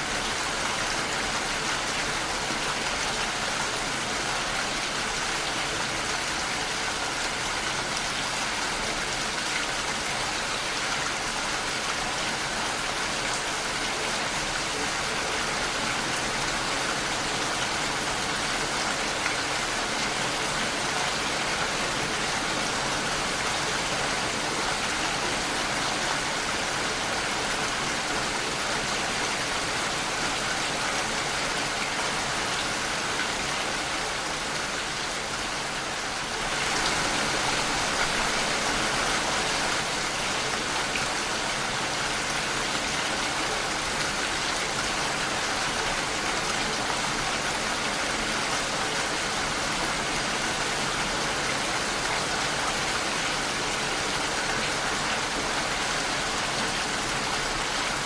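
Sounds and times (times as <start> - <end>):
rain against a window: 0.1 - 58.0.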